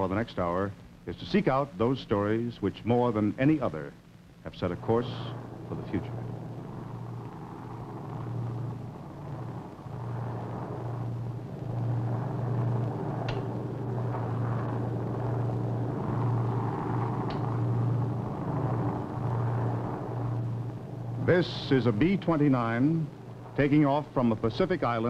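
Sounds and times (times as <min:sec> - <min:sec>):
piston aircraft engines droning: 0:00.0 - 0:25.0.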